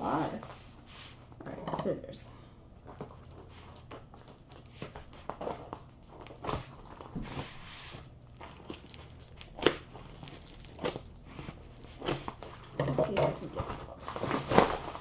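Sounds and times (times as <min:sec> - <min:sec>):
bubble-wrap mailer crinkling: 0:02.7 - 0:15.0.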